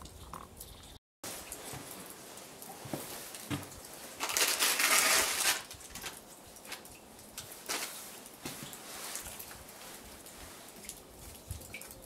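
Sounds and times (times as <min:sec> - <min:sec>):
wood fire crackling and popping: 0:01.3 - 0:12.0.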